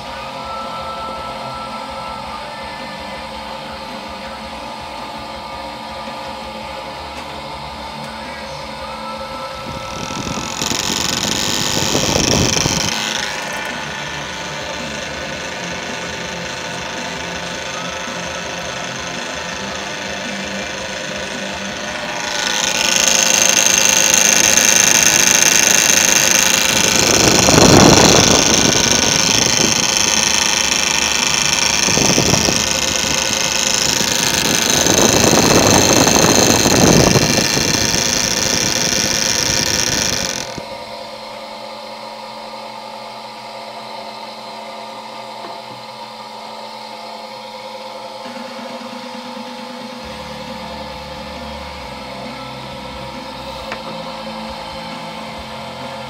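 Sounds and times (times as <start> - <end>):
spinning wheel high-pitched whine: 0.0 - 56.0.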